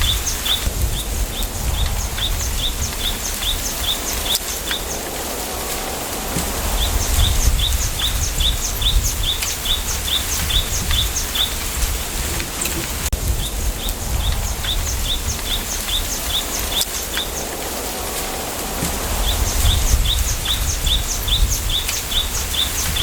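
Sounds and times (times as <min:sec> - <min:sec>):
wind through bamboo: 0:00.0 - 0:23.0.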